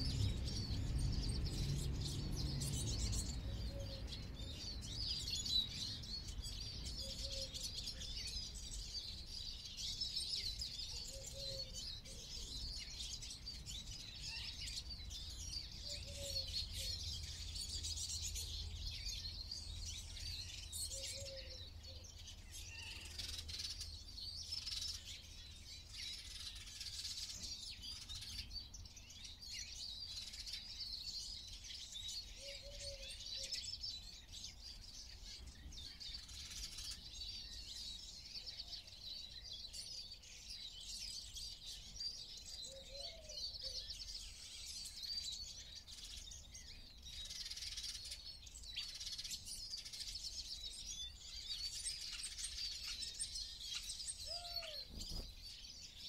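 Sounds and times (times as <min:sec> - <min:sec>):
songbirds twittering chorus: 0:00.0 - 0:56.0.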